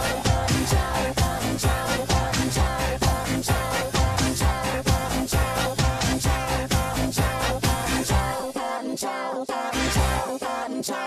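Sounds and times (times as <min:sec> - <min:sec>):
dance music: 0:00.0 - 0:11.0.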